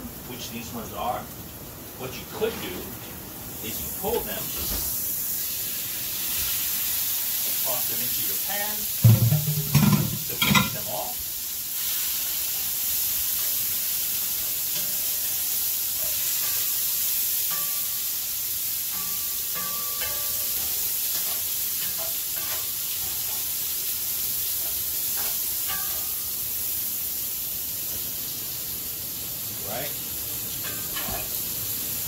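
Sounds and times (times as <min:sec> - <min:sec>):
vegetables sizzling in a skillet: 0:00.0 - 0:32.0.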